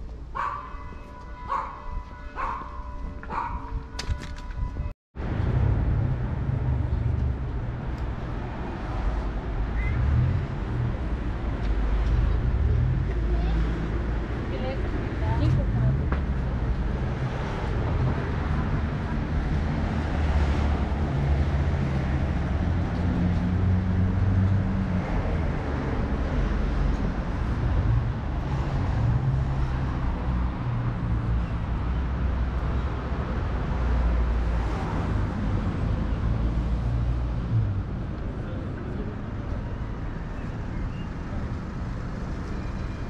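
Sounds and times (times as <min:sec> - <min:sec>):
city road traffic rumble: 0:00.0 - 0:43.0.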